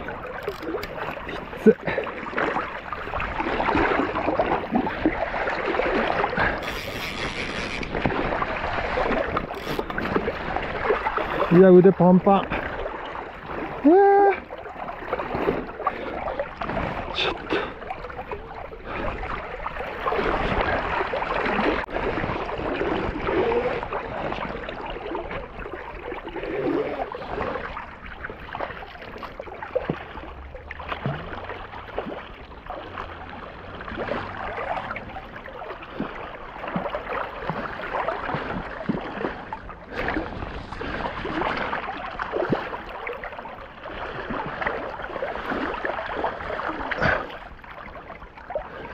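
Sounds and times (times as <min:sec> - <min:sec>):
fish splashing in water: 0:00.0 - 0:48.9.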